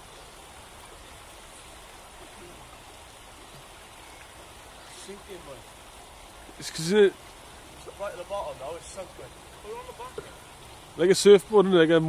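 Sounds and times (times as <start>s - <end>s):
river flowing over stones: 0.0s - 12.0s.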